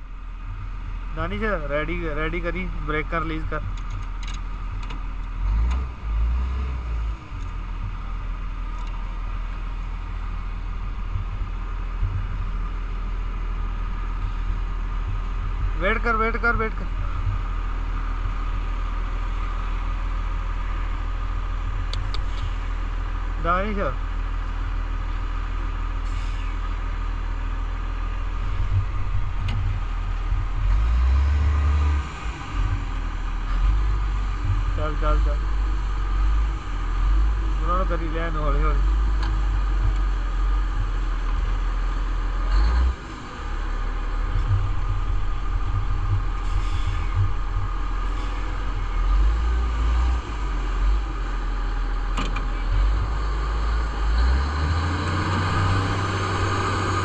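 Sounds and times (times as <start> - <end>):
heavy truck engine rumbling: 0.0 - 57.0.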